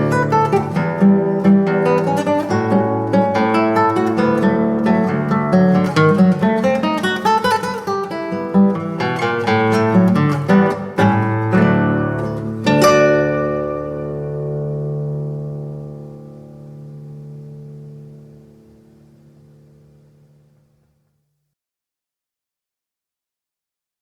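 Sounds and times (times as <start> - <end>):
classical guitar solo: 0.0 - 21.1.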